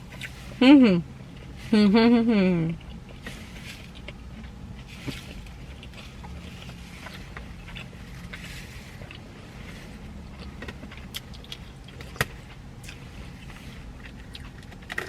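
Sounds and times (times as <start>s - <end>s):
person chewing: 0.0s - 1.6s, 2.7s - 15.0s
low steady hum: 0.0s - 15.0s.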